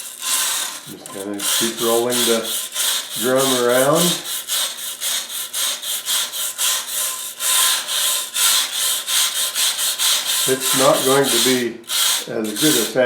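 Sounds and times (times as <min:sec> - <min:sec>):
wire brush scrubbing abrasive paper: 0:00.0 - 0:13.0.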